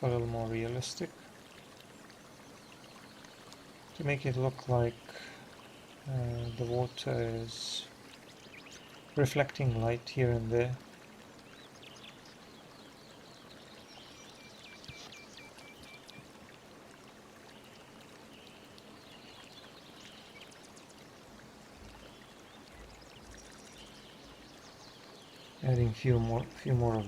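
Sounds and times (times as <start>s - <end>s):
birds chirping: 0.0s - 16.4s, 17.4s - 27.0s
flowing water: 0.0s - 27.0s.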